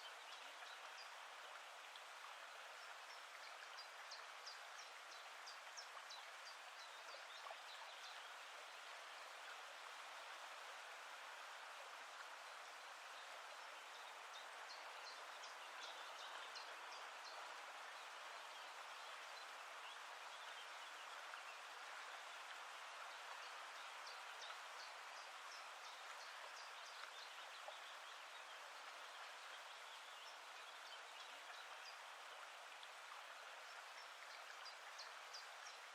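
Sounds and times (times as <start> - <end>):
faint water hiss: 0.0 - 35.9.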